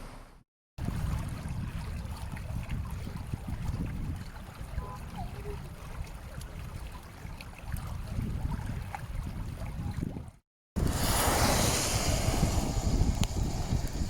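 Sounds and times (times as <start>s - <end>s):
wind buffeting microphone: 0.8s - 14.0s.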